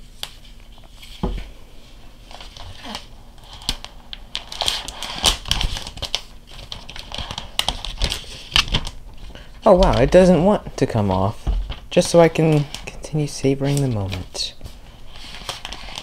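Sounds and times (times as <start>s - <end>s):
plastic wrap crinkling: 2.1s - 16.0s.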